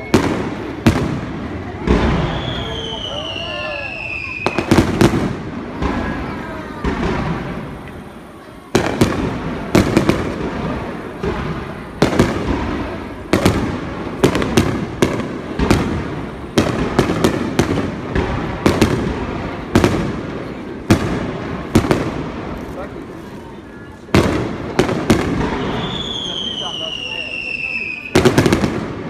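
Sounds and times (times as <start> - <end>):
fireworks booming: 0.0 - 29.0
fireworks crackling and rumbling: 0.0 - 29.0.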